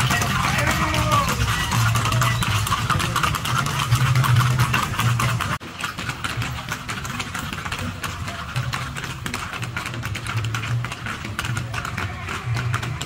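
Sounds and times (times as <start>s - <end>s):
horseshoes clicking on pavement: 0.0s - 13.0s.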